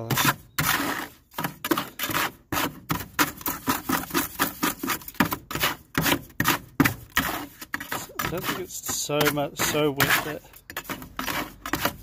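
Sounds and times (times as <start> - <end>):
tool scraping mortar in container: 0.0 - 12.0.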